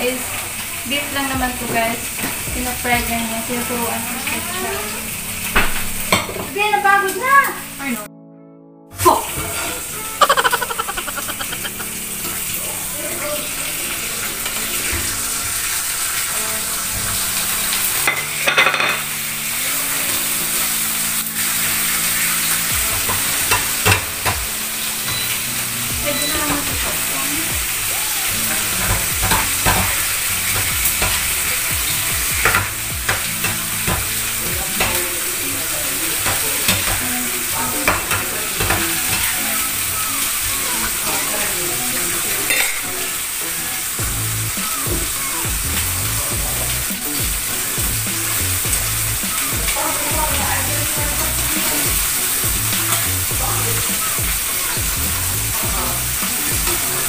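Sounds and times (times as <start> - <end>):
food sizzling in a pan: 0.0 - 8.0, 9.0 - 57.0.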